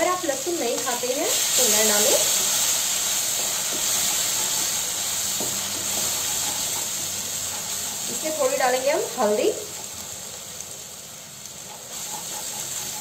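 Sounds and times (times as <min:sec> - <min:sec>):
paste sizzling in hot oil: 0:00.0 - 0:13.0
wooden spatula scraping: 0:00.8 - 0:10.0, 0:11.6 - 0:13.0.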